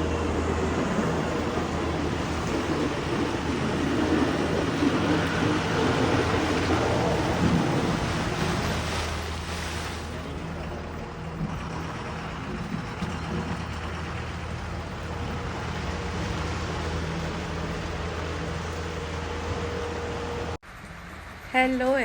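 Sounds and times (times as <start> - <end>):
faint steady whine: 0.0 - 22.0
vehicle engine humming: 0.0 - 22.0.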